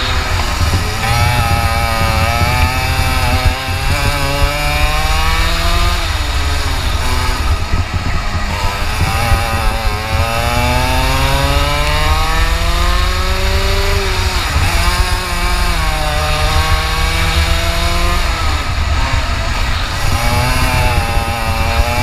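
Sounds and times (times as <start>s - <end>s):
kart engine at full throttle: 0.0s - 22.0s.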